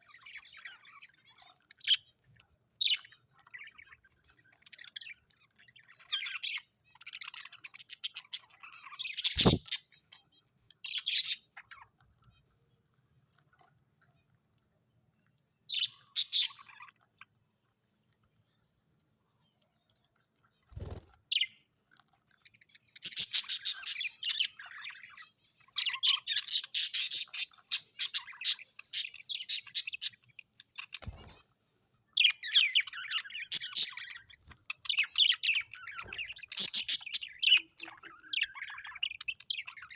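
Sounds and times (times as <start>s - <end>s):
birds chirping and calling: 0.0s - 2.2s, 2.8s - 12.3s, 15.7s - 17.3s, 20.6s - 39.9s.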